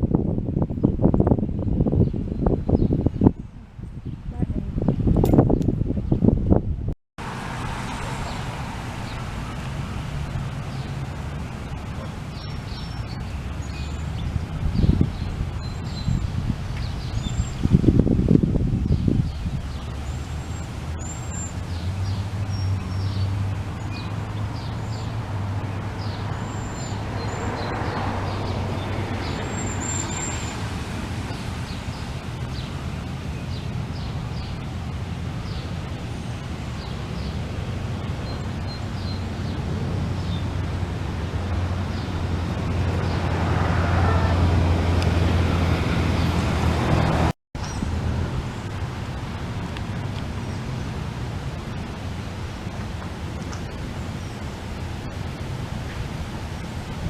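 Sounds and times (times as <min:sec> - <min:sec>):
road traffic hum: 0:00.0 - 0:57.0.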